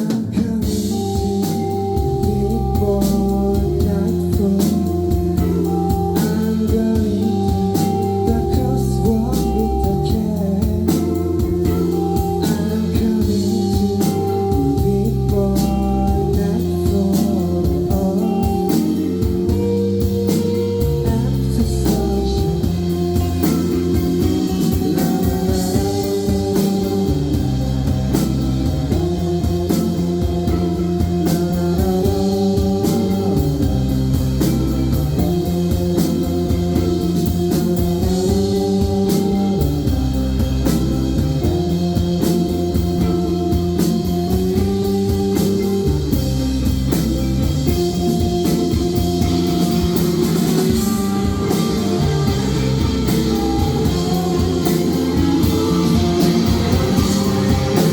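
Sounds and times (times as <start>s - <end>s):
rock band instrumental: 0.0s - 57.9s.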